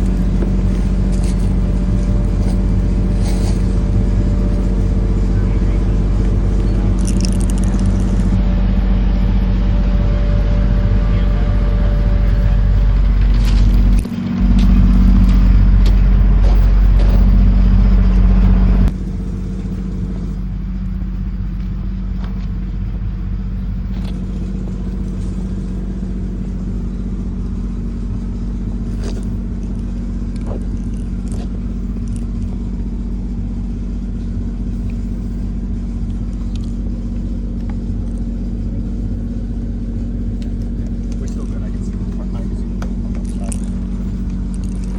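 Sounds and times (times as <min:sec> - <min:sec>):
heavy low rumble: 0:00.0 - 0:44.9
miniature locomotive droning: 0:00.0 - 0:44.9.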